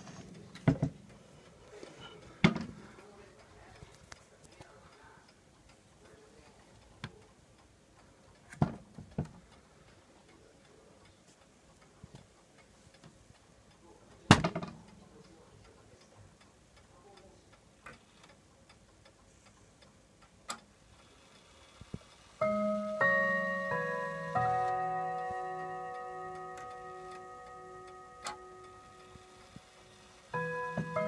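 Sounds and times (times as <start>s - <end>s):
clock ticking softly: 0.0s - 31.0s.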